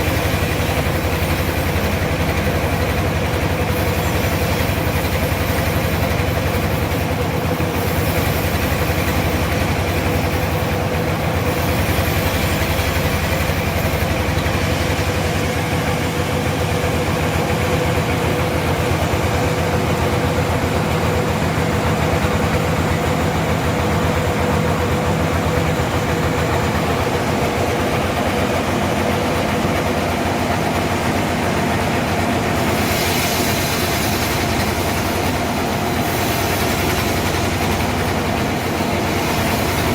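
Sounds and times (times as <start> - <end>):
bright hiss: 0.0 - 39.9
machine whine: 0.0 - 39.9
sawmill machinery drone: 0.0 - 39.9.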